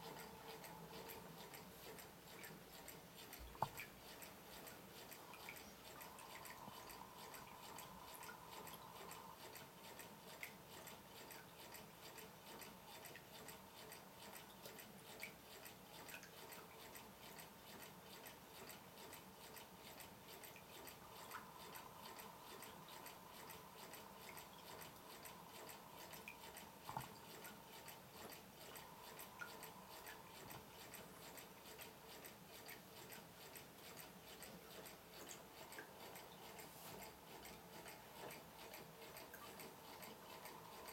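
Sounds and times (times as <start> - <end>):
faint mechanical ticking: 0.0 - 40.9.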